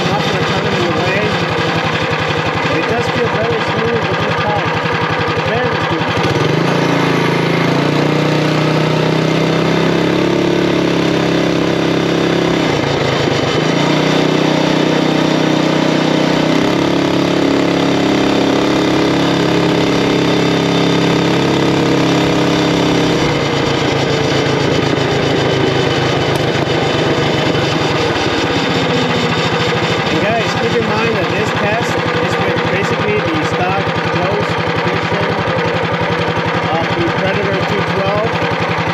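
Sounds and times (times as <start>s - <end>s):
mini bike engine running: 0.0s - 38.9s.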